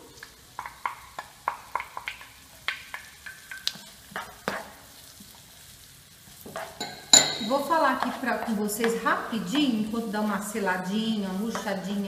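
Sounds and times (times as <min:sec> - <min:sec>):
bacon and onion sizzling in pan: 0:00.0 - 0:12.0.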